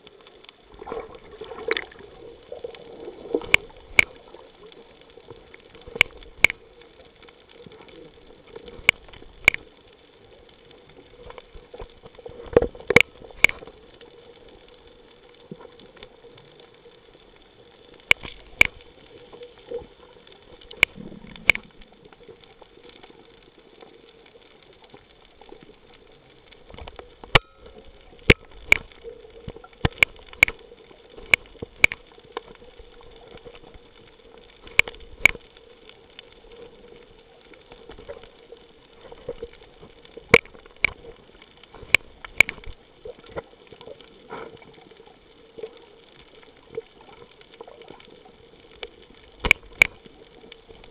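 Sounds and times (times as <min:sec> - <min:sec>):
faint steady hum: 0:00.0 - 0:50.9
low watery underwater hiss: 0:00.0 - 0:50.9.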